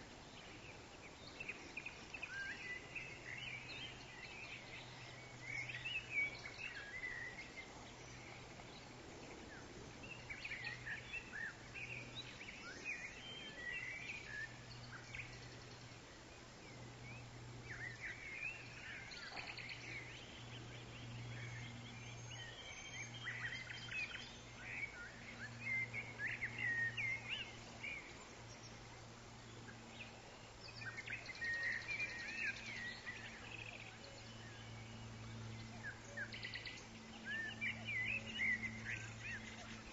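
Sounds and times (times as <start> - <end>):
birds chirping: 0.0 - 39.9
steady low hum: 0.0 - 39.9.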